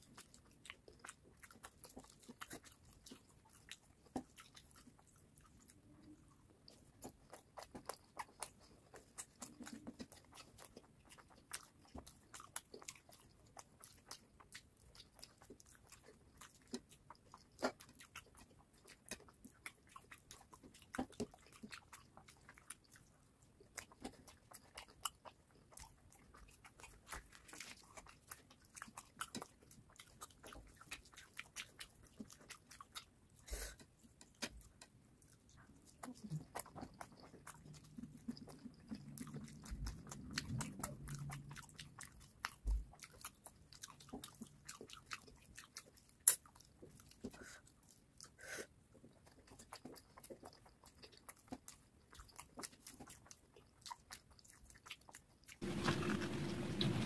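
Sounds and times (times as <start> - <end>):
chewing with mouth clicks: 0.0 - 57.0.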